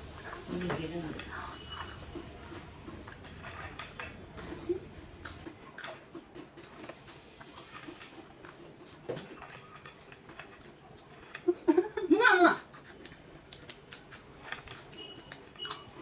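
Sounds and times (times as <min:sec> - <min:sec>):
crisps crunching being chewed: 0:00.0 - 0:11.9, 0:12.6 - 0:16.0.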